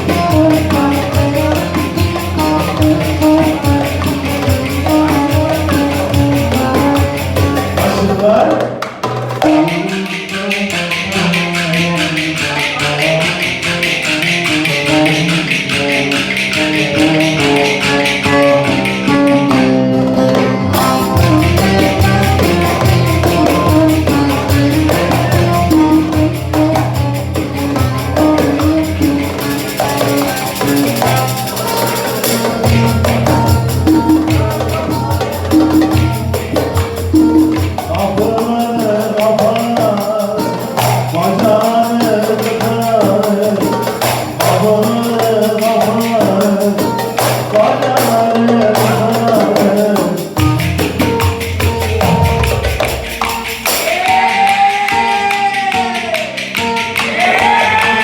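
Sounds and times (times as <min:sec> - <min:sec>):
upbeat instrumental folk-pop music: 0:00.0 - 0:58.0.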